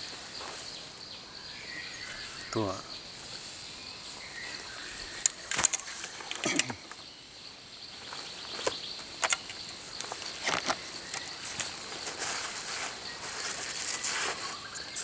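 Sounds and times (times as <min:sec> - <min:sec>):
insects droning: 0:00.0 - 0:15.0
crackles and rustles: 0:02.1 - 0:07.1, 0:07.9 - 0:15.0.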